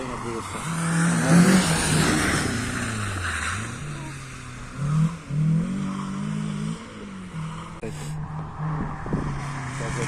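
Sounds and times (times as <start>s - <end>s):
car engine revving hard: 0.0s - 10.0s.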